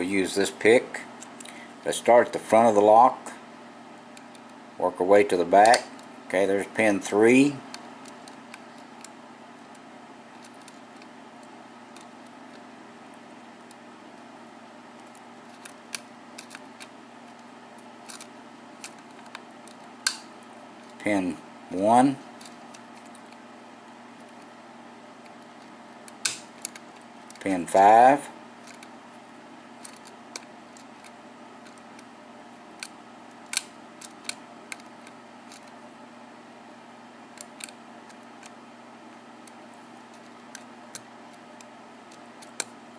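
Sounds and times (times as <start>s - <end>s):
faint steady hum: 0.0s - 42.9s.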